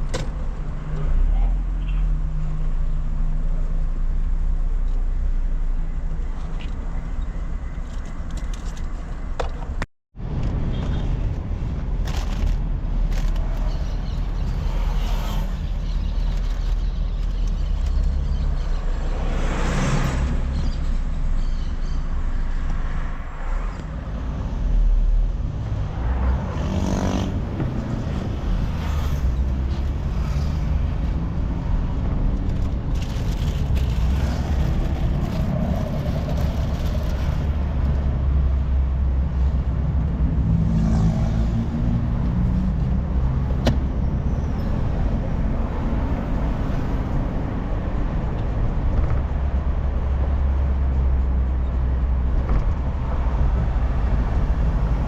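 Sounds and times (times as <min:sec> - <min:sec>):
engine and road rumble: 0:00.0 - 0:55.0
tyre and traffic noise: 0:00.0 - 0:55.0.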